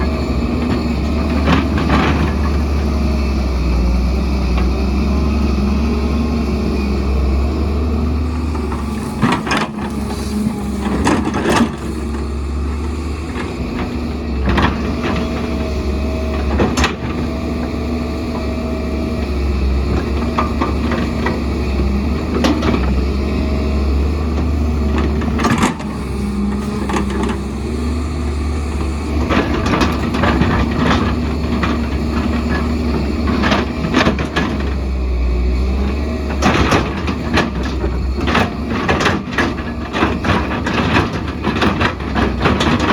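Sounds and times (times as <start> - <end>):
excavator engine rumbling: 0.0 - 42.9.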